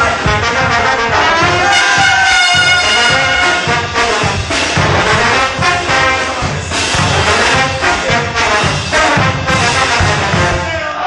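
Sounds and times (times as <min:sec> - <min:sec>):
brass band playing: 0:00.0 - 0:11.0
steady drum beat: 0:00.0 - 0:11.0.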